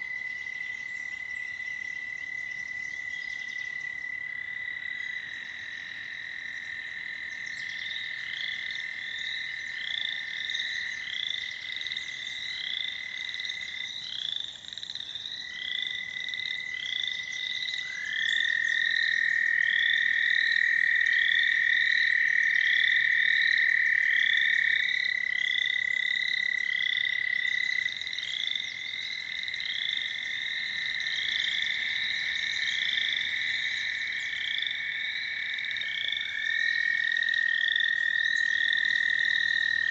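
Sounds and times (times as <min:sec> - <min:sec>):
toads trilling: 0:00.0 - 0:39.9.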